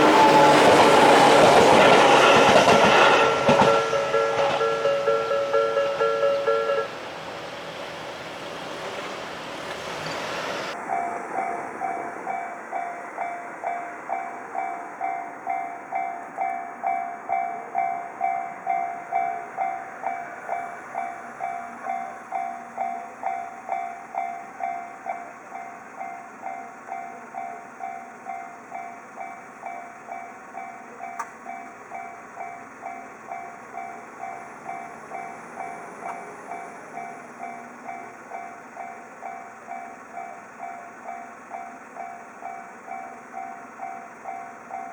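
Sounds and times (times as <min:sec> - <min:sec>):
level crossing warning bell: 0:00.0 - 0:44.9
train passing: 0:00.0 - 0:44.9.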